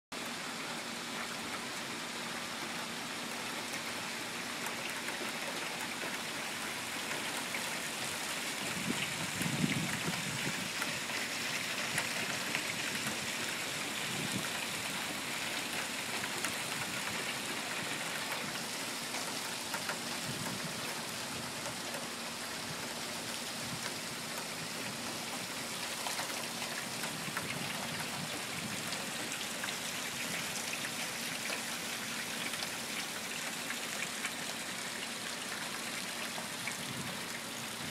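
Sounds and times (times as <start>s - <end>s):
steady rain falling: 0.2s - 37.9s.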